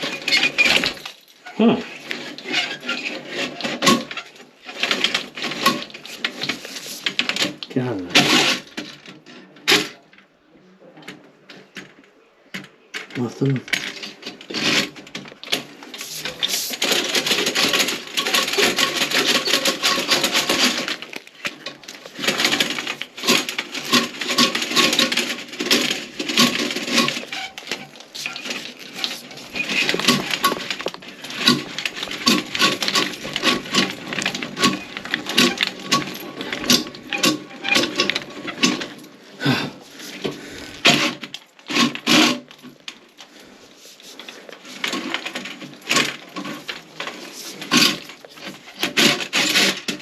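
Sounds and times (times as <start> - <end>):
drain tool scraping in toilet: 0.0 - 1.1, 1.8 - 7.6, 13.7 - 42.6, 43.4 - 50.0.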